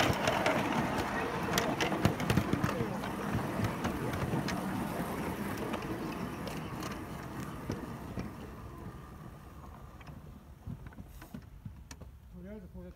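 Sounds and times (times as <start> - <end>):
small train wheels rumbling: 0.0 - 12.7.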